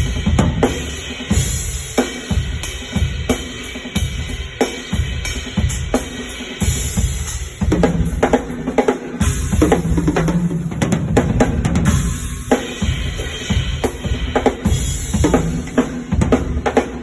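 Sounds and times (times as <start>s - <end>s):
drum kit playing a groove: 0.0s - 17.0s.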